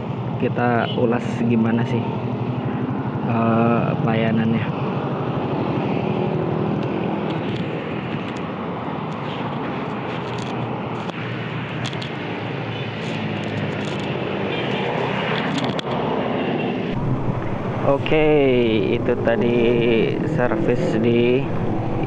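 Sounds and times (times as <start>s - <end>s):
motor engines running: 2.0s - 22.0s.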